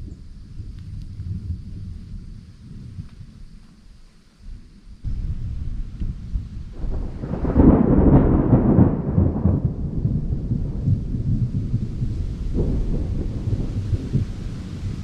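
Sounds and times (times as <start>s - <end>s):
thunder rumbling: 0.0s - 3.6s, 5.0s - 15.0s
gusting wind: 0.0s - 15.0s.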